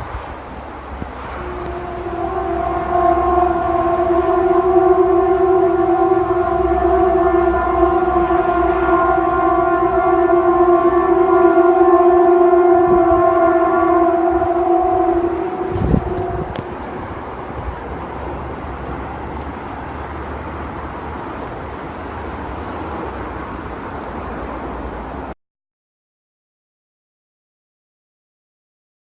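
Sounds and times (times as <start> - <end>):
loud horn-like drone: 0.8 - 25.4.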